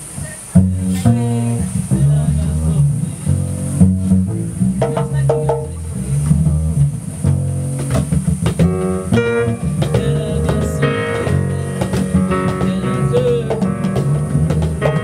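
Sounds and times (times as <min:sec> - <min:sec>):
jazz band playing: 0:00.0 - 0:15.0.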